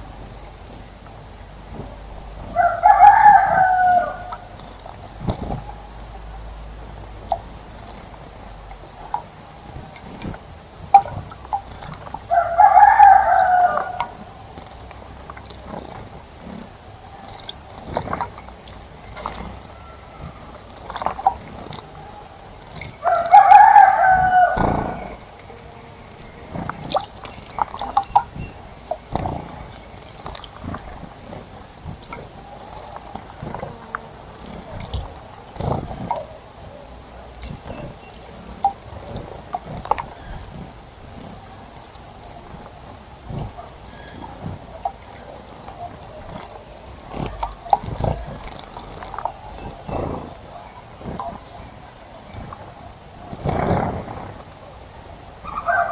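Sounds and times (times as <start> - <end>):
birds splashing in bird bath: 0.0 - 55.9.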